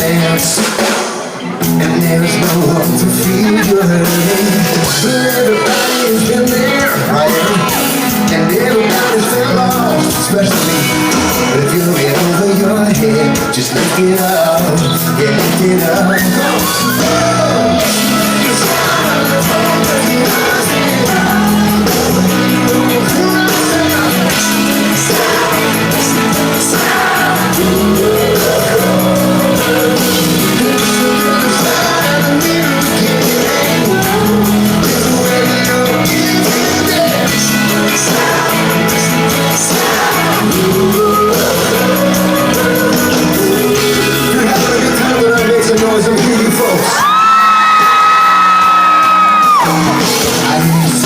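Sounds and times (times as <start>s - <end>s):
lead vocal singing: 0.0s - 51.0s
live rock band playing: 0.0s - 51.0s.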